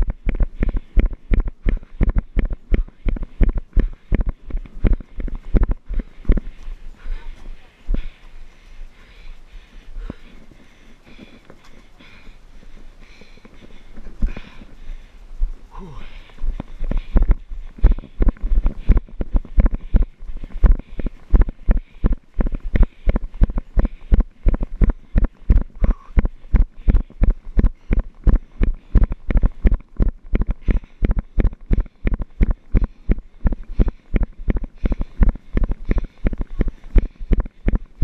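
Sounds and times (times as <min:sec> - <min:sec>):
footsteps running on dirt path: 0:00.0 - 0:38.0.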